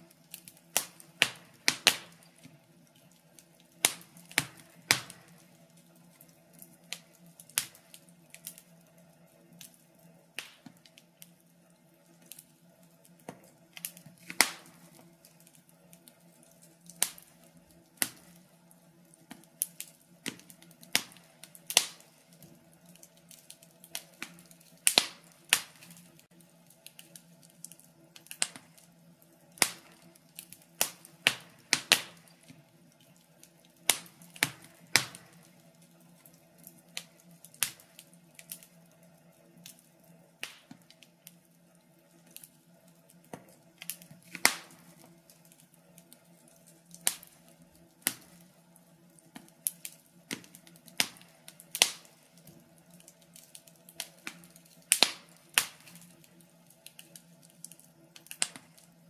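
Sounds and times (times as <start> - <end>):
low steady hum: 0.0 - 59.0
wood fire crackling and popping: 0.0 - 59.0.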